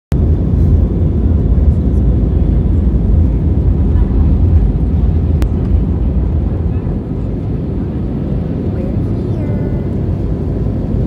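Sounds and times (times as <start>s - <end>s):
airliner cabin rumble: 0.1s - 11.0s.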